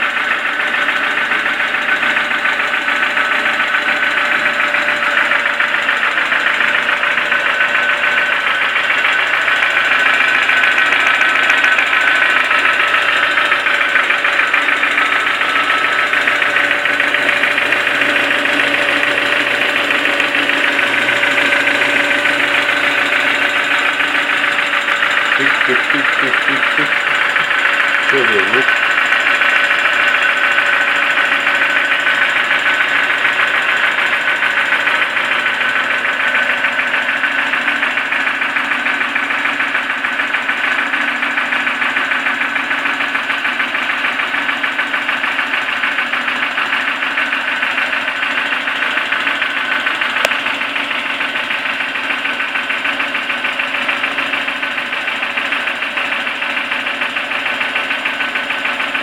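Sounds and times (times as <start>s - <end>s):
car engine running: 0.0s - 59.0s
rapid knocking inside engine: 0.0s - 59.0s.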